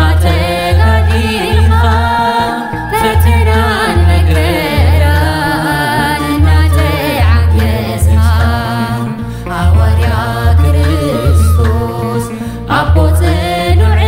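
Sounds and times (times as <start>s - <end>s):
woman singing a hymn: 0.0s - 14.0s.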